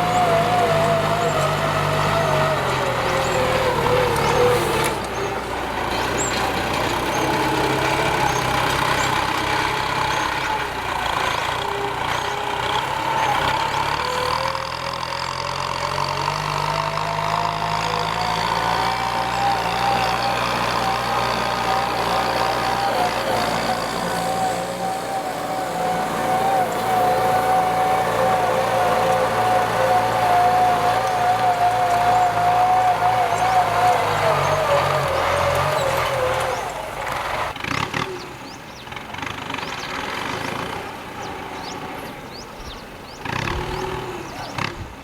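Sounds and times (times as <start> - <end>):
whining tone rising in pitch: 0.0 - 37.6
tractor diesel engine running: 0.0 - 45.0.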